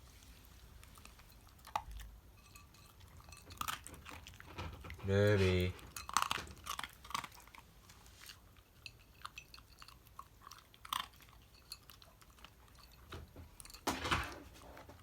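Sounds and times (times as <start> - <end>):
dog chewing and crunching food: 0.0 - 15.0.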